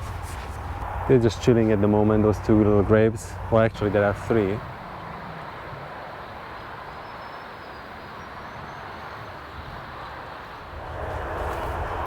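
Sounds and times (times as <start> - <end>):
low hum of distant traffic: 0.0 - 12.0.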